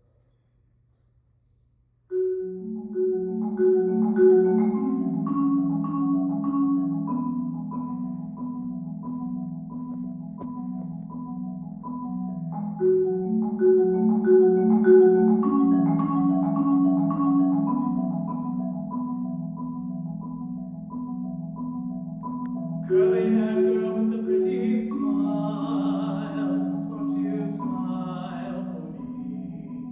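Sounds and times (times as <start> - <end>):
marimba rolled low chord: 2.1 - 29.9.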